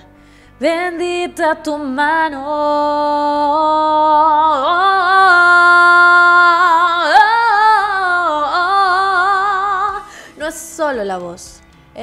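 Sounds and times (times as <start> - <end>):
woman singing with vibrato: 0.6 - 11.4.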